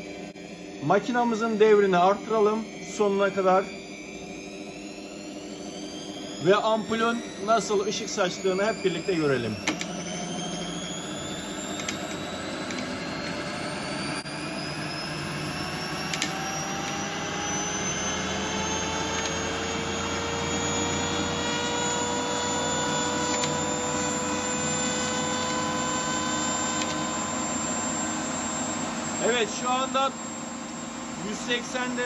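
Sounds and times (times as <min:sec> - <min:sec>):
motor whine: 0:00.0 - 0:32.0.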